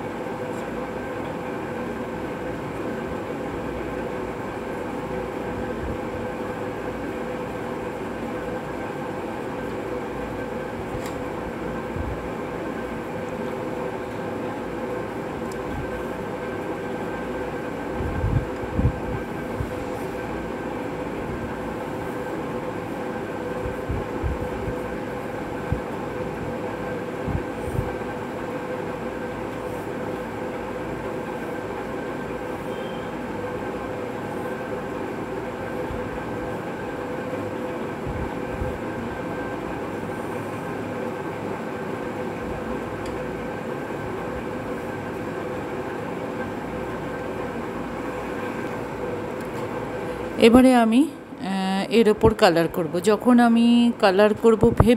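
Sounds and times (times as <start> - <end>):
steady mechanical hum: 0.0 - 54.9.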